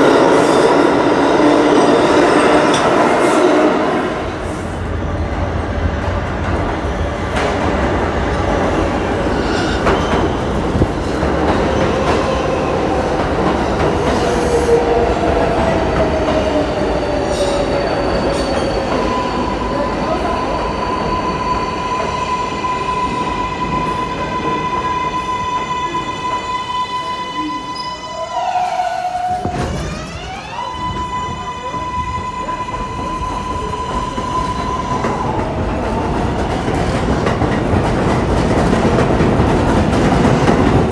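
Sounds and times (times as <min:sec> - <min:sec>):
train wheel-on-rail rumble: 0:00.0 - 0:27.8, 0:28.4 - 0:40.9.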